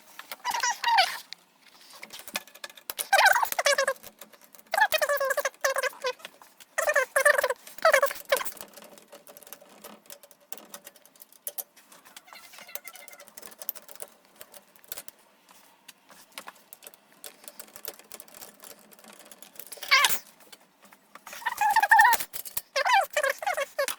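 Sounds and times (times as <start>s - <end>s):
screws and screwdriver rattling: 0.3s - 15.2s, 16.1s - 20.5s, 21.2s - 23.9s.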